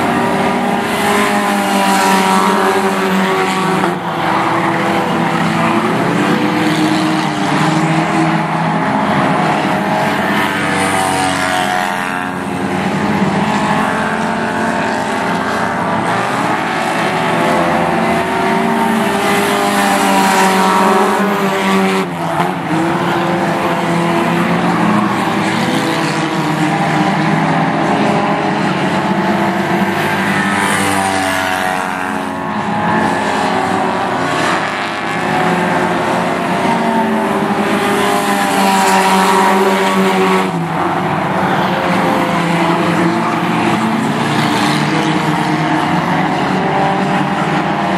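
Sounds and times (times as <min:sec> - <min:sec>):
race car engines: 0:00.0 - 0:47.9.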